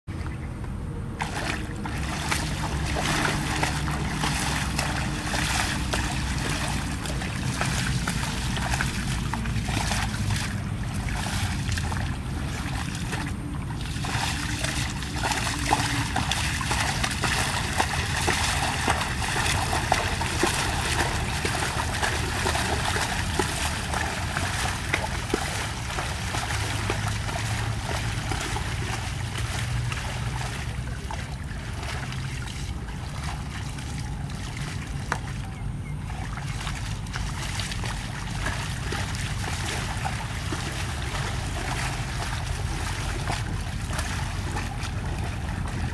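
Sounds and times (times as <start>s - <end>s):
legs splashing through water: 0.1s - 45.9s
steady low rumble: 0.1s - 45.9s.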